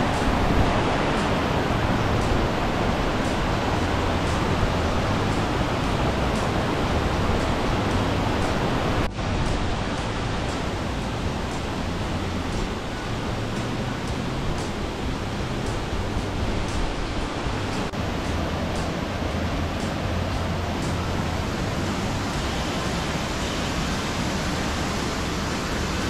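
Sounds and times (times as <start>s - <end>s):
waterfall and stream rushing: 0.0s - 26.0s.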